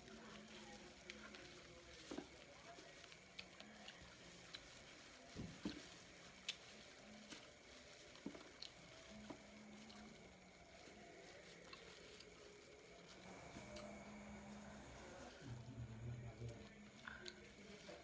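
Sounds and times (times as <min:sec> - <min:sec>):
chewing and food handling: 0:00.0 - 0:18.0.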